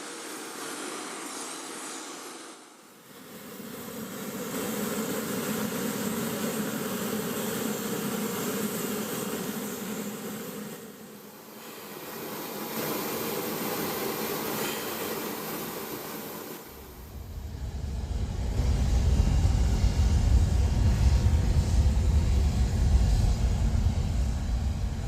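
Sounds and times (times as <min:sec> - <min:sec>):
aircraft turbine rushing: 0:00.4 - 0:25.0.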